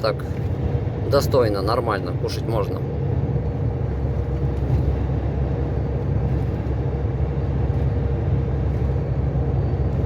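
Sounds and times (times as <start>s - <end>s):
diesel engine drone: 0.0s - 10.0s
road noise: 0.0s - 10.0s.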